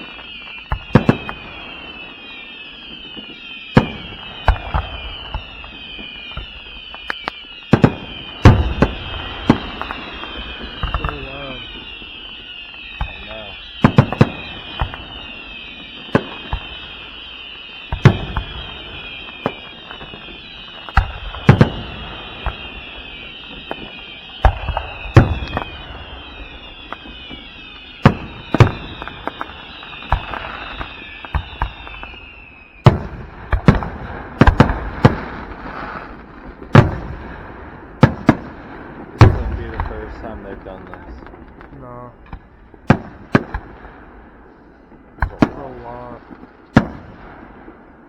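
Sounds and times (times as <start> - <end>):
fireworks whistles sliding down: 0.0 - 37.3, 39.1 - 43.7, 44.4 - 48.0
fireworks bangs: 0.0 - 48.0.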